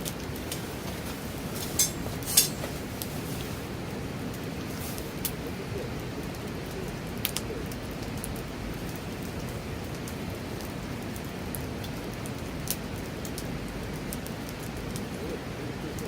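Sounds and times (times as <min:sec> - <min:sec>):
fire crackling pops: 0:00.0 - 0:15.2
campfire hissing: 0:00.0 - 0:16.0.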